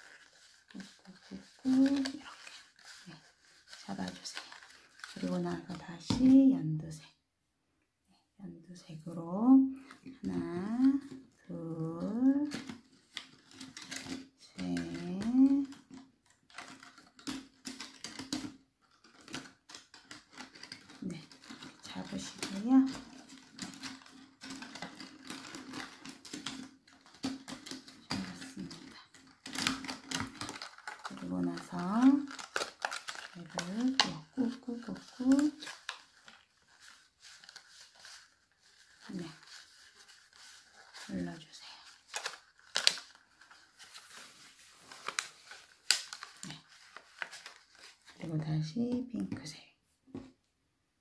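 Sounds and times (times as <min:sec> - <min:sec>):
plastic strips clicking and rustling: 0:00.0 - 0:06.5, 0:09.8 - 0:49.5.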